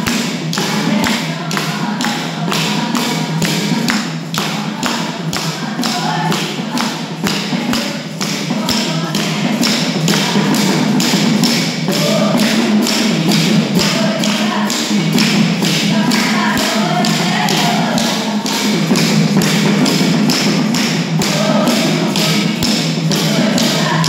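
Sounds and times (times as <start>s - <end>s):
barrel drum beat: 0.0s - 24.0s
children singing: 0.0s - 24.0s.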